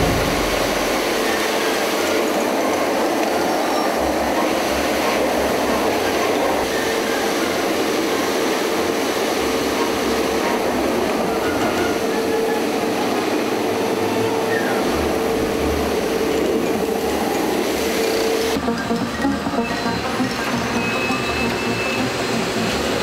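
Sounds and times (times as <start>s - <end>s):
street sweeper running: 0.0s - 23.0s.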